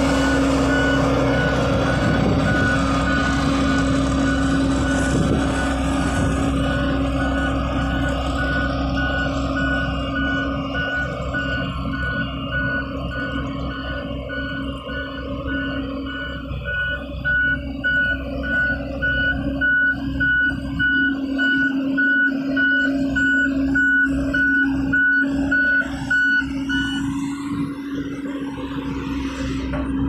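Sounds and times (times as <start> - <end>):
diesel engine running: 0.0 - 30.0
reversing alarm beeping: 0.0 - 30.0.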